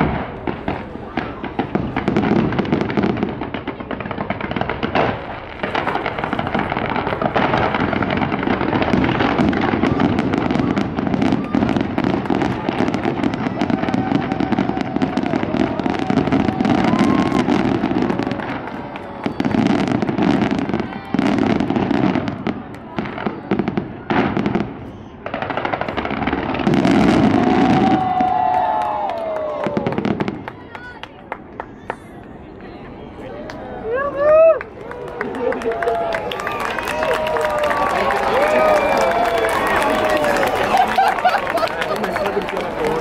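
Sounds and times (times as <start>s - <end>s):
murmur of crowd voices: 0.0s - 28.5s, 29.2s - 43.0s
fireworks crackling and popping: 0.0s - 43.0s.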